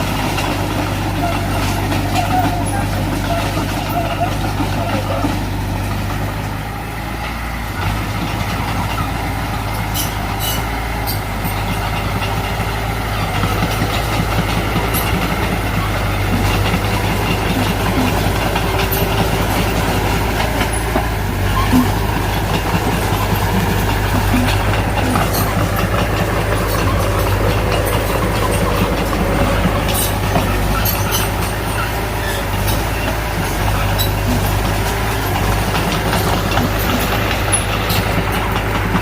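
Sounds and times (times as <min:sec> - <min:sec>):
diesel machinery engine running: 0:00.0 - 0:39.0.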